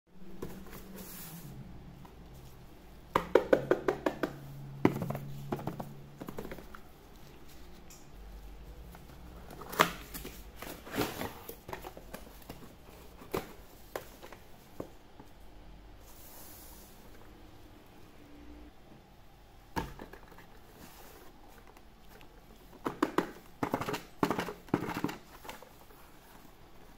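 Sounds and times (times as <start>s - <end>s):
cardboard and plastic rustling: 0.2s - 17.3s, 19.6s - 26.9s.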